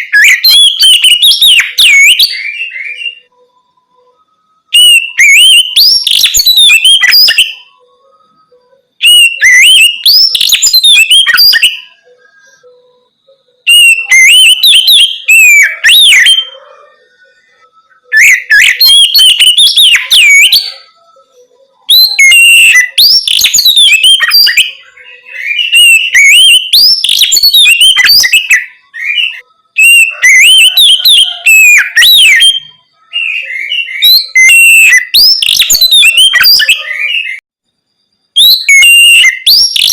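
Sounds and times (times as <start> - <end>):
songbird whistling and warbling: 0.0 - 39.9.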